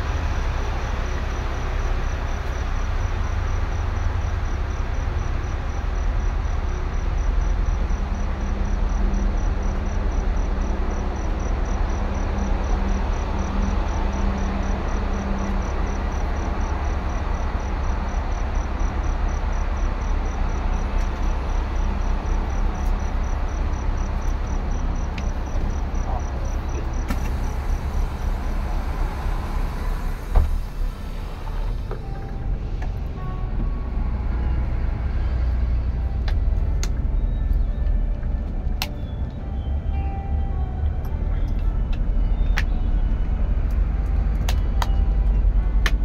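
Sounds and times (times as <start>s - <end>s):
vehicle rumbling: 0.0s - 46.0s
insects chirping: 0.1s - 38.0s.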